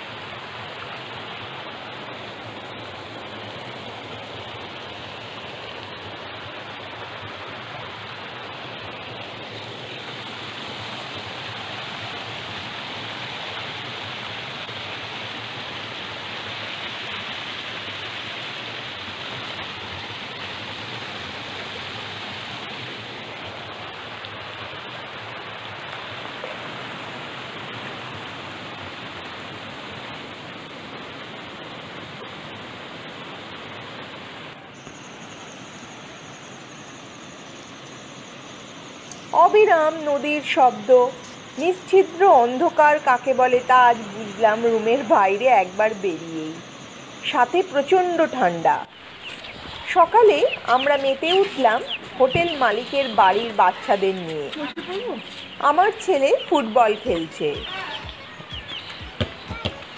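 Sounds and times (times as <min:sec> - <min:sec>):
stream rushing over boulders: 0:00.0 - 0:45.5, 0:46.7 - 0:59.9.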